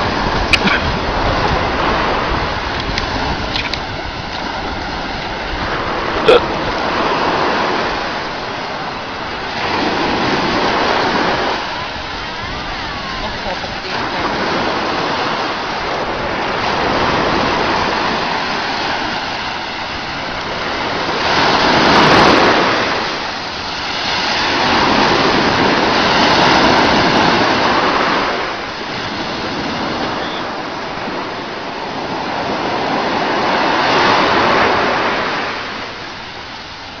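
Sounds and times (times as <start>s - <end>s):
sea surf breaking: 0.0s - 37.0s.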